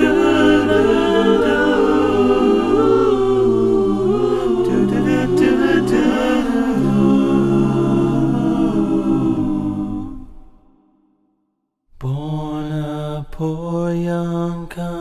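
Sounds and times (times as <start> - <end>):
a cappella vocal harmony: 0.0 - 11.0, 12.0 - 15.0.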